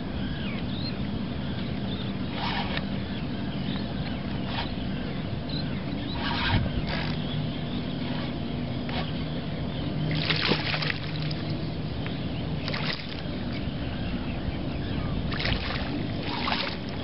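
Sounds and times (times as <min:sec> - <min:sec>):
steady low hum: 0:00.0 - 0:17.0
water splashing around a boat: 0:00.0 - 0:17.0.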